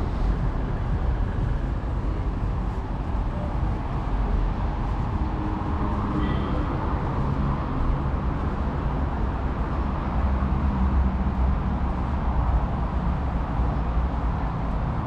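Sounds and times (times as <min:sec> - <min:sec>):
faint engine hum: 0:00.0 - 0:15.0
low rumble of street traffic: 0:00.0 - 0:15.0.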